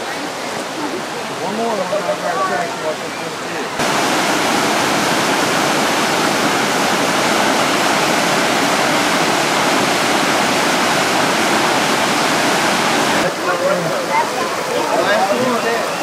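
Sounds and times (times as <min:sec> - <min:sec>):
waterfall roaring over rocks: 0:00.0 - 0:16.0.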